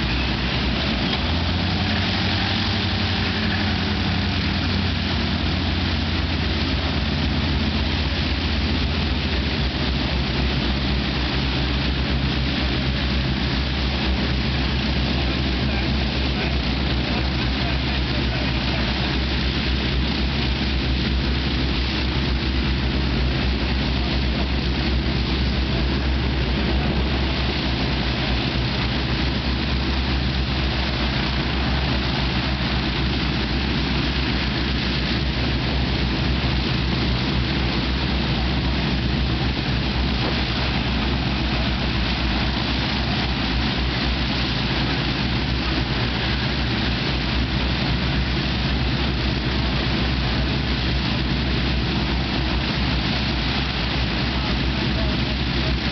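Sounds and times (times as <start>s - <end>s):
aircraft piston engines droning: 0.0s - 55.9s.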